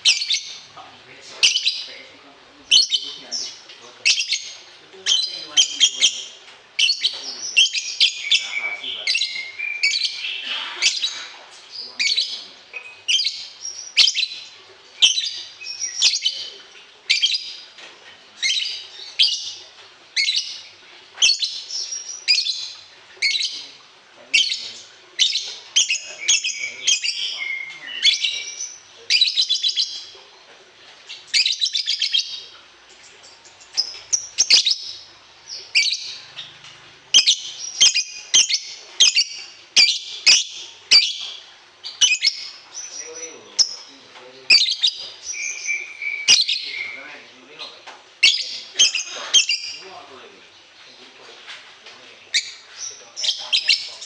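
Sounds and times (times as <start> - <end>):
songbird chirping: 0.0 - 54.0.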